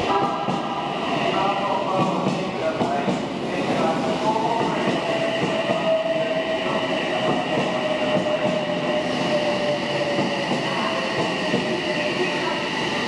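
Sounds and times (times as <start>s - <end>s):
electric train rumbling and whining: 0.0s - 13.0s.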